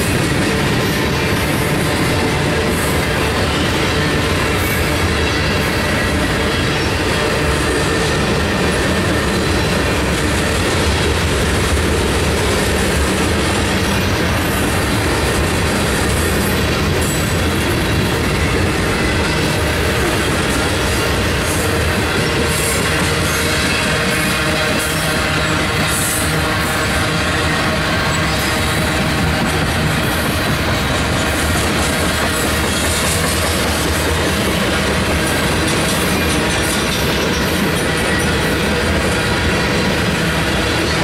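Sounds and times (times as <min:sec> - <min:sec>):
clickety-clack over rail joints: 0:00.0 - 0:41.0
steel wheels rolling on rail: 0:00.0 - 0:41.0.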